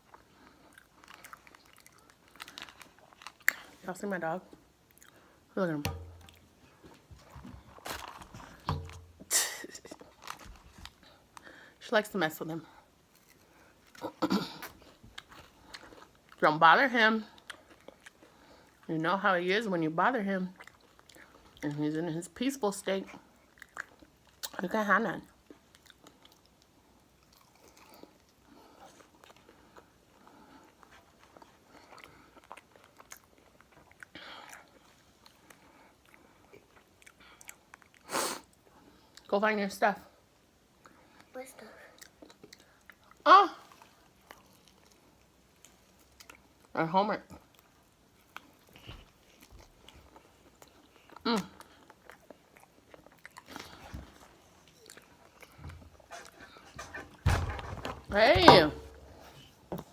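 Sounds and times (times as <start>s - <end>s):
faint chewing: 0.0s - 11.8s, 12.5s - 39.3s, 40.3s - 57.2s.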